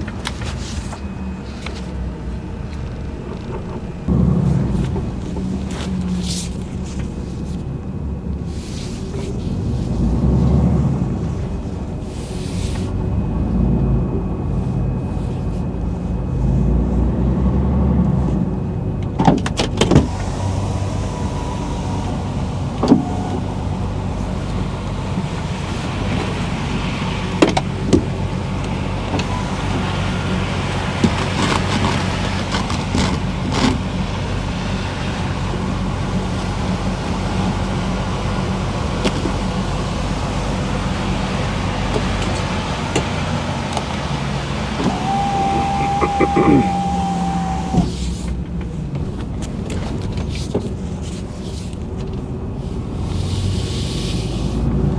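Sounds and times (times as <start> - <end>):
diesel truck engine droning: 0.0 - 54.9.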